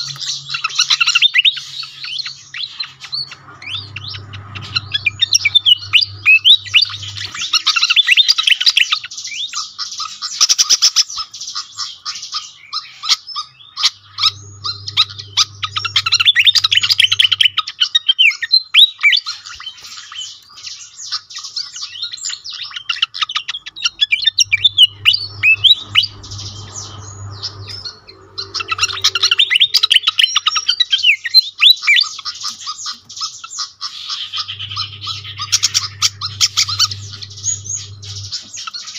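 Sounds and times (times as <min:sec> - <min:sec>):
bird singing high squeaky chirps: 0:00.0 - 0:38.9.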